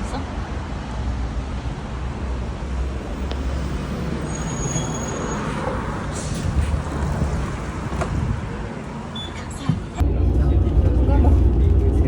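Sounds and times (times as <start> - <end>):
motor vehicle rumbling: 0.0 - 12.0.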